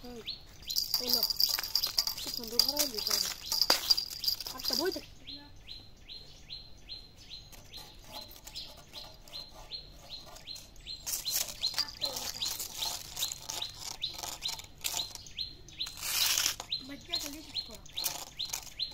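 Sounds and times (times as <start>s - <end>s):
bird high chirp: 0.0s - 18.9s
dry crackling rustle: 0.2s - 5.0s, 7.5s - 18.9s.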